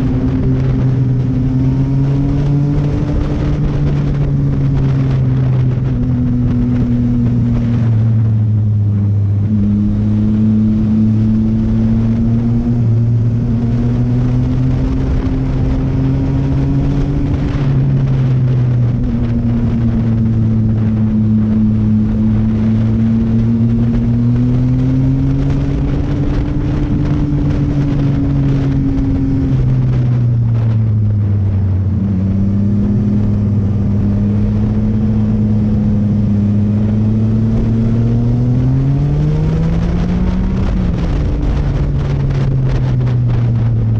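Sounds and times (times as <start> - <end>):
motorcycle engine cruising: 0.0 - 43.9
wind rushing over microphone: 0.0 - 43.9.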